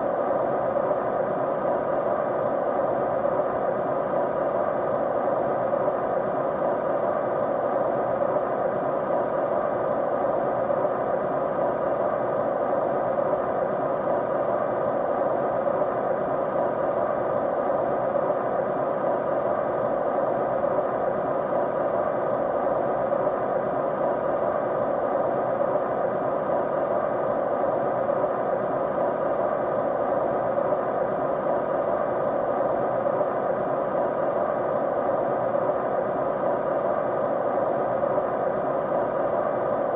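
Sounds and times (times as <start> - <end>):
faint humming tones: 0.0 - 39.9
muffled white noise hiss: 0.0 - 39.9.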